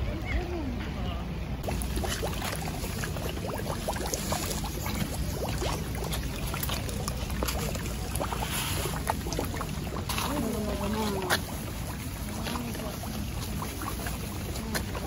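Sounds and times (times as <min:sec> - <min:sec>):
fish splashing at the surface: 0:01.6 - 0:15.0
rain falling on a pond: 0:01.6 - 0:15.0.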